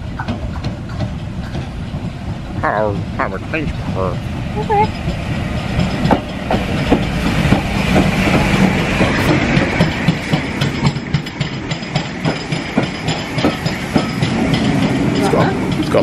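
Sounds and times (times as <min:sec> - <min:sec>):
train coaches rumbling on track: 0:00.0 - 0:16.0
wheels clicking over rail joints: 0:00.0 - 0:16.0.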